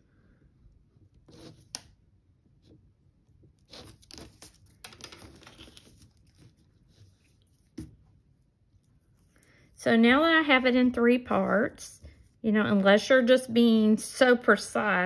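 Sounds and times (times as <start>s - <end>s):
clay rustling and scuffing: 0.9s - 13.2s.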